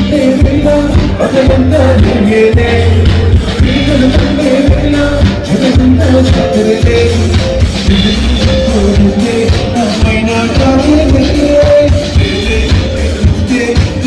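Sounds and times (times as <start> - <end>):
musical accompaniment with heavy bass: 0.0 - 14.0
person singing through loudspeakers: 0.0 - 14.0.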